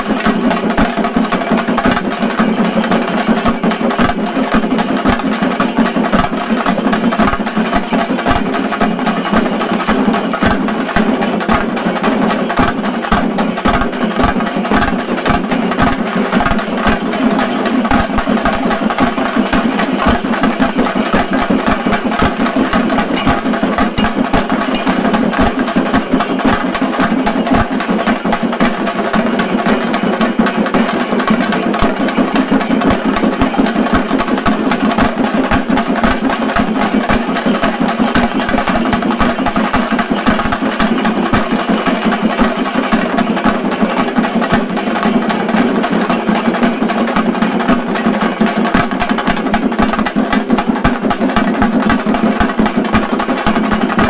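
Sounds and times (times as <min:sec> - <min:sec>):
drums beating fast rhythm: 0:00.0 - 0:54.0.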